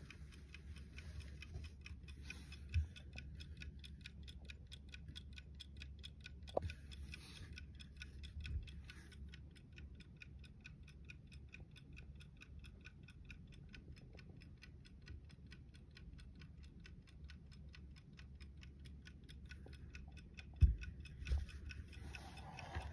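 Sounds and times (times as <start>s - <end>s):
clock ticking quickly: 0.0s - 22.9s.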